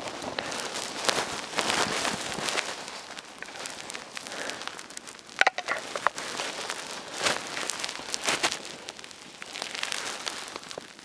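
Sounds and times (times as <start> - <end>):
fire snaps and pops: 0.0 - 11.0
wood fire crackling: 0.0 - 11.0.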